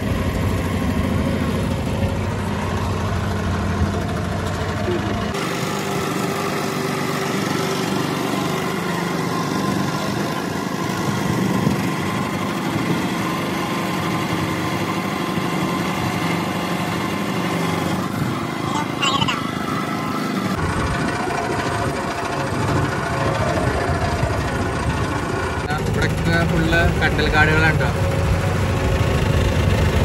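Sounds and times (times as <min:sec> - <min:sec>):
motor boat engine running: 0:00.0 - 0:30.0.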